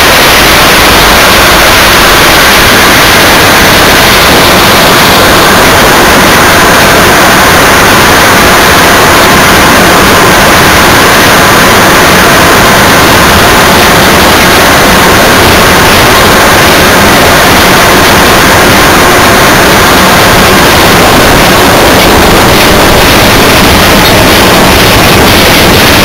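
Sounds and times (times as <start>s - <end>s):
steam locomotive rushing noise: 0.0s - 26.0s.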